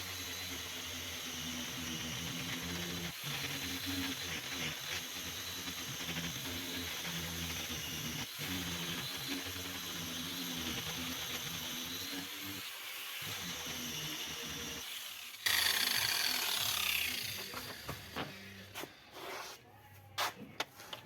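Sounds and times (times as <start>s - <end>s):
angle grinder whining: 0.0s - 18.9s.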